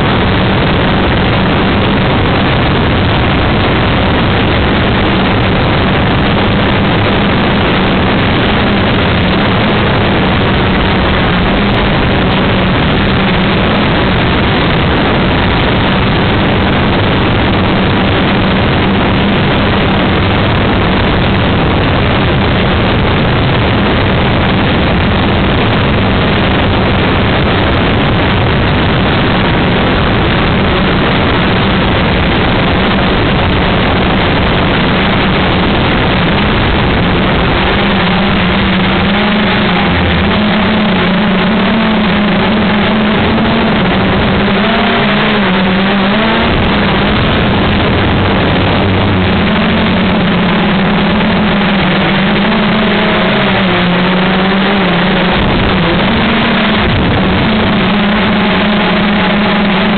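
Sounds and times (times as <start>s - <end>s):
drone propellers whirring: 0.0s - 59.9s.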